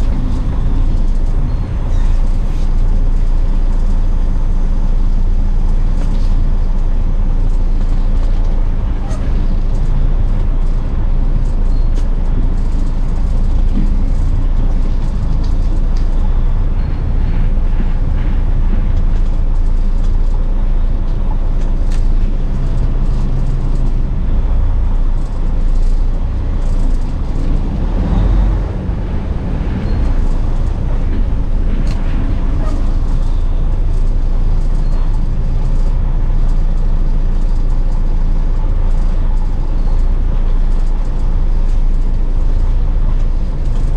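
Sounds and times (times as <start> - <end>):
diesel truck engine drone: 0.0 - 43.9.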